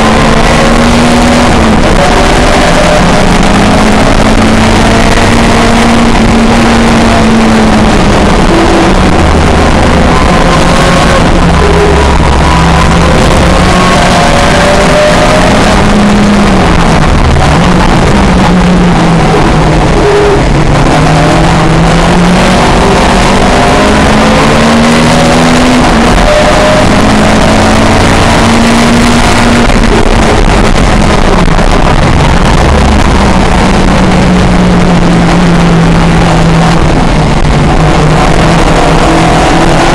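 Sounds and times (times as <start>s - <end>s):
car engine racing: 0.0s - 39.9s
wind and road noise: 0.0s - 39.9s.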